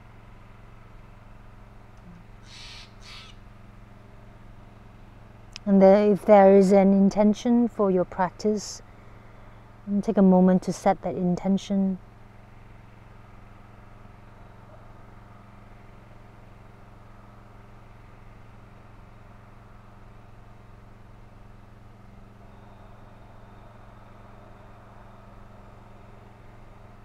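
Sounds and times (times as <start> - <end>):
low outdoor background hum: 0.0 - 27.0.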